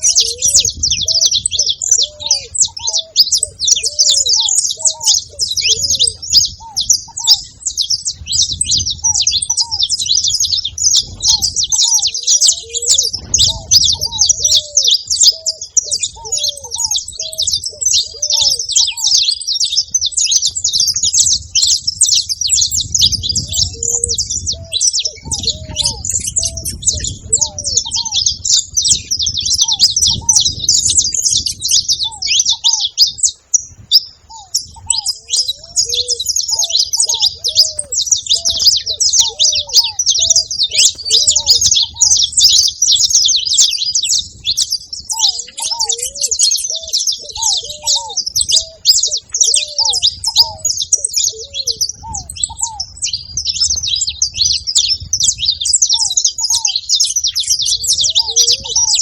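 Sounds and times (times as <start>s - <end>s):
finches twittering: 0.0s - 59.0s.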